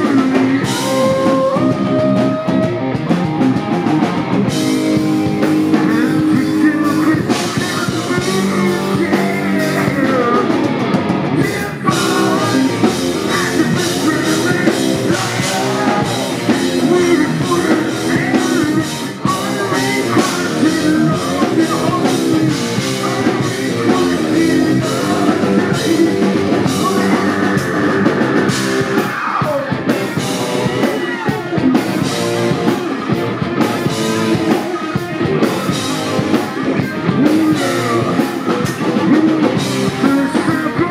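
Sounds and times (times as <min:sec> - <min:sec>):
hard rock band playing: 0:00.0 - 0:40.9
person singing: 0:00.0 - 0:40.9.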